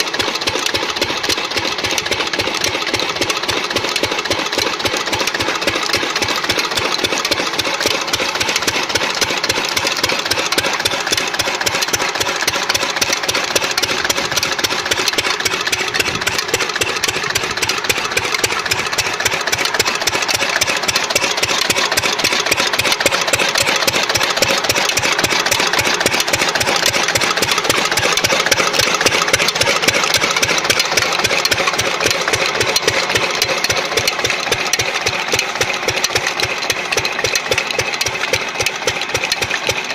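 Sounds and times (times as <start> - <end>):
stationary diesel engine running: 0.0 - 39.9.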